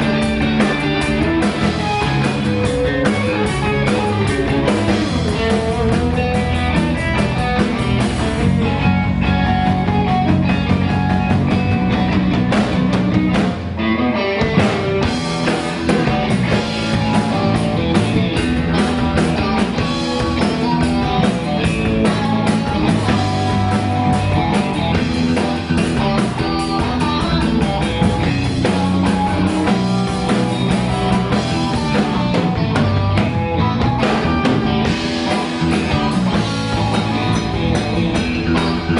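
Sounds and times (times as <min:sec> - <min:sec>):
blues band playing live: 0:00.0 - 0:38.9
electric guitar: 0:00.0 - 0:38.9.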